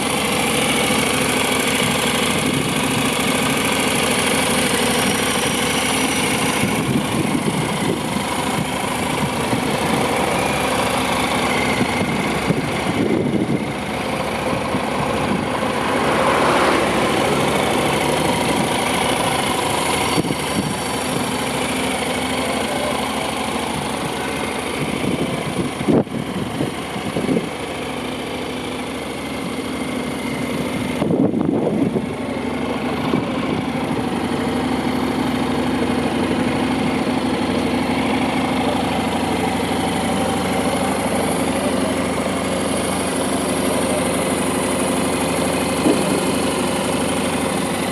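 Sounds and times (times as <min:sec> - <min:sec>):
motorcycle engine idling: 0:00.0 - 0:47.9.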